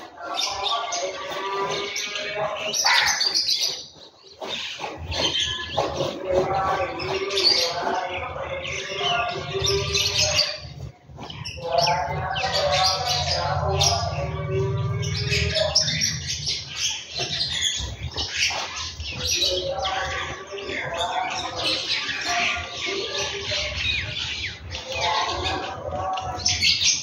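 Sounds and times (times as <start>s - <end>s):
sparrows chirping: 0.0s - 27.0s.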